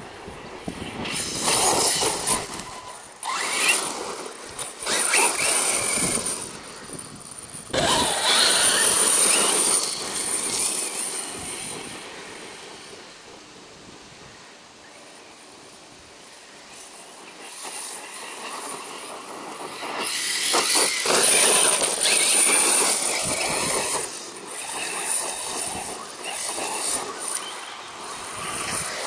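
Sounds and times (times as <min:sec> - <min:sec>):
electric motor whining: 0:00.7 - 0:13.0, 0:17.6 - 0:29.0.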